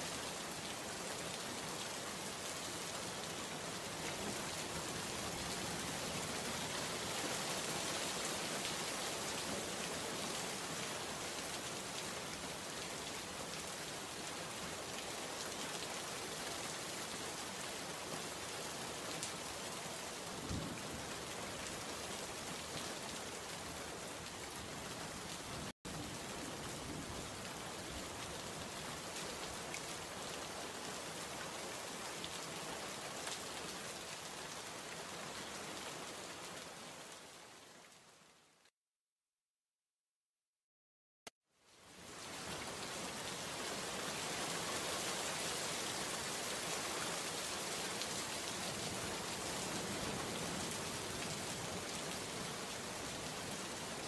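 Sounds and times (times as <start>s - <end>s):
steady rain falling: 0.0s - 38.7s, 41.6s - 54.0s.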